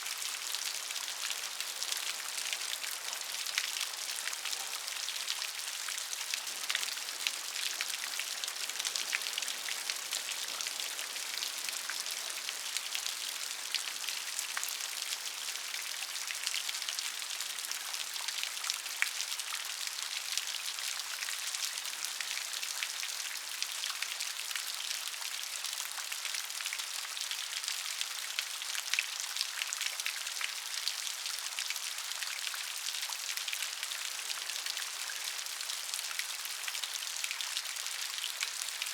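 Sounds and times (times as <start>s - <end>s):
rain falling off a roof: 0.0s - 38.9s.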